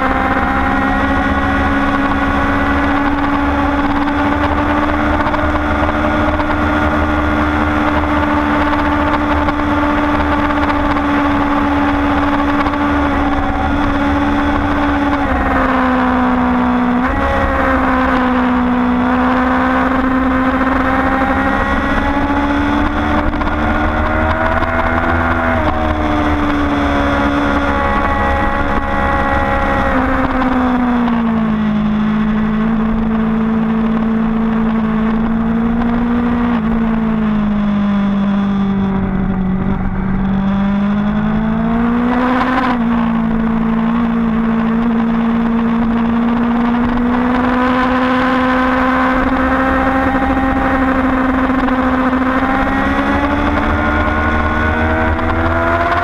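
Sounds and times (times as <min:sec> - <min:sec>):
race car engine running hard: 0:00.0 - 0:56.0
wind rush: 0:00.0 - 0:56.0.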